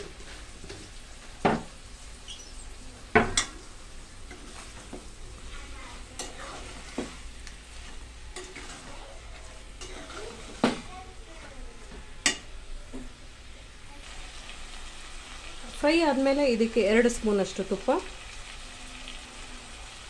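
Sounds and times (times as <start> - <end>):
frying sizzle: 0.0 - 20.0.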